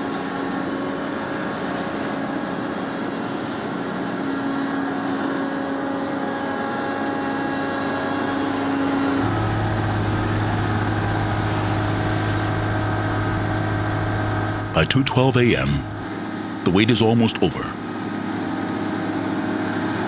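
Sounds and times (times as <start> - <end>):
shipboard machinery hum: 0.0 - 20.0.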